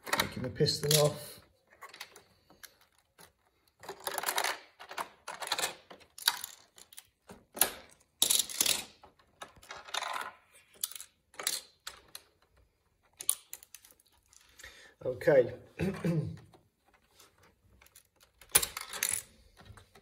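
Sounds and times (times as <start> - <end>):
plastic bricks clicking and rattling: 0.0 - 14.6, 15.8 - 20.0.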